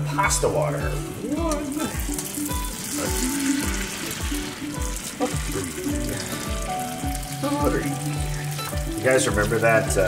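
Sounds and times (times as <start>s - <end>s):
background music with beat: 0.0s - 10.0s
water poured into sizzling pan: 1.6s - 10.0s.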